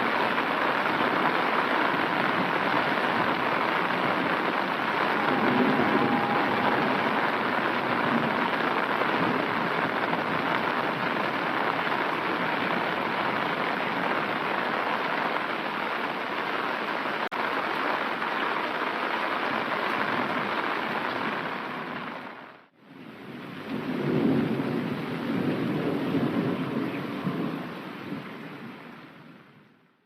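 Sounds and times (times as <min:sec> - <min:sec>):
heavy rain on an umbrella: 0:00.0 - 0:29.8.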